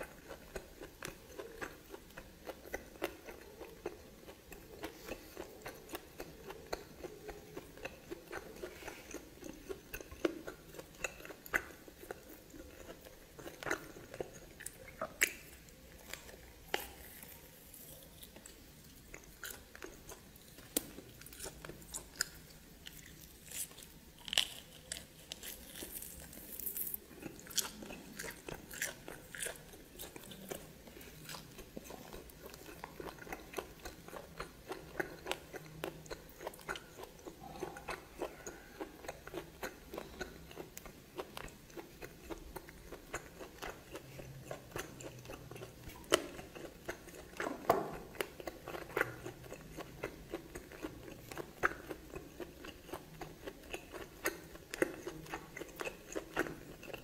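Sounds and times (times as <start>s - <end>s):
person chewing and biting food: 0.0s - 57.0s.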